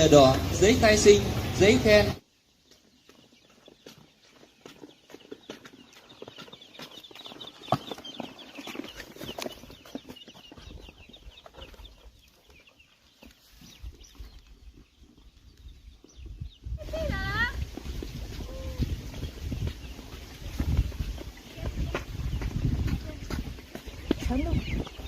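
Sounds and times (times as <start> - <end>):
chicks cheeping: 0.0 - 25.0.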